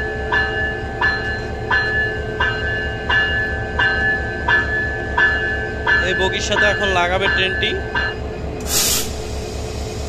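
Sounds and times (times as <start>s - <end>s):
diesel locomotive engine humming: 0.0s - 10.0s.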